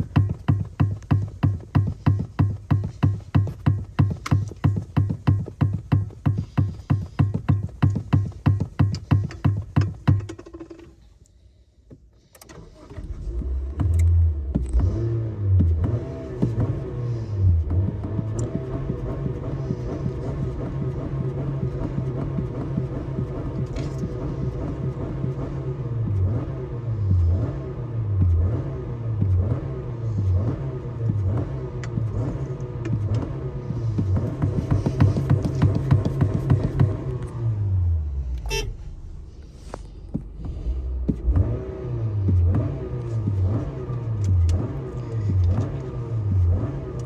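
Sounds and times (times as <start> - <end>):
car engine running and revving: 0.0 - 10.9, 12.1 - 47.0.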